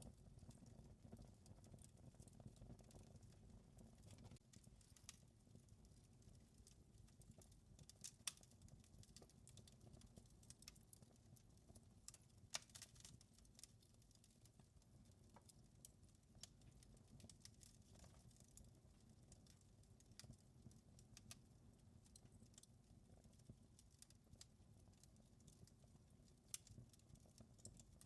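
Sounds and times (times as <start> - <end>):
wood fire crackling: 0.0 - 28.0
fire pops and snaps: 0.1 - 14.6, 15.2 - 28.0.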